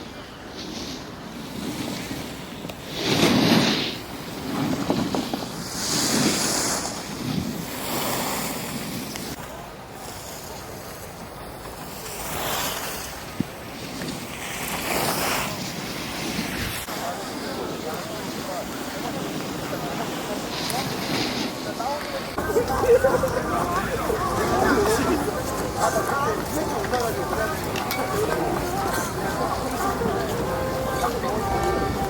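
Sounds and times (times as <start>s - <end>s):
skis sliding on packed snow: 0.1s - 32.0s.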